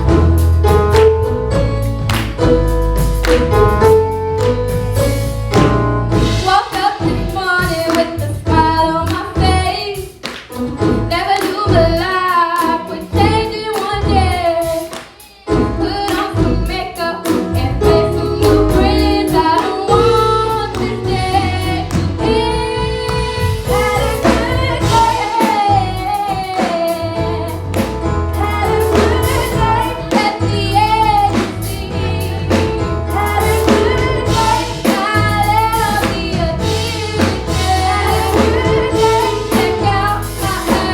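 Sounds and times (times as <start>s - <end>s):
bass: 0.0s - 12.3s, 12.9s - 14.9s, 15.5s - 40.9s
drums: 0.0s - 40.9s
woman singing gospel song: 6.2s - 40.9s.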